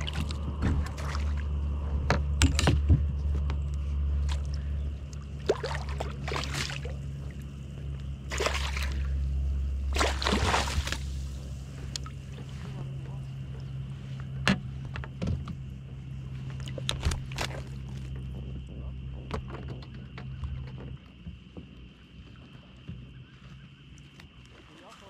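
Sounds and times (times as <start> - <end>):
steady low hum: 0.0 - 25.0
water sloshing around kayak: 0.0 - 25.0.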